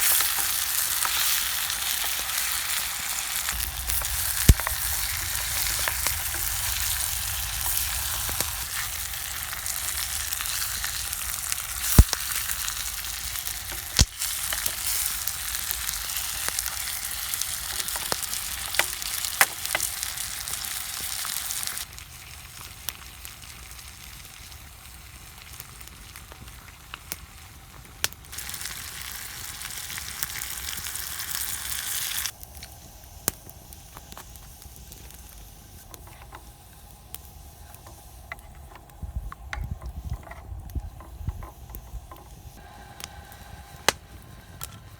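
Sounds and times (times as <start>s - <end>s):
food sizzling in a mess tin: 0.0s - 44.9s.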